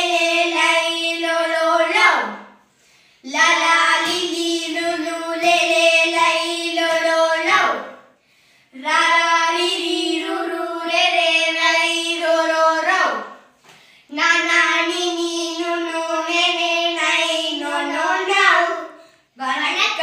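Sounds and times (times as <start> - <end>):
girls chanting: 0.0 - 2.6, 3.2 - 8.0, 8.8 - 13.5, 14.1 - 19.0.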